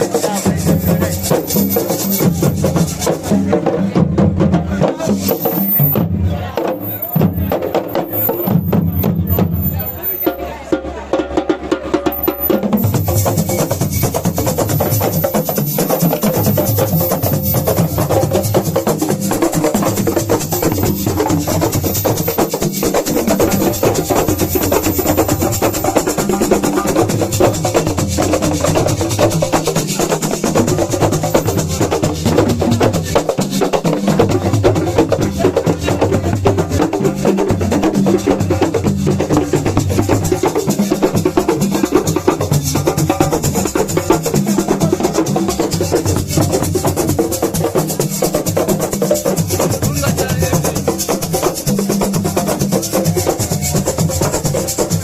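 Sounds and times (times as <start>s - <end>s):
percussion drumming: 0.0s - 55.0s.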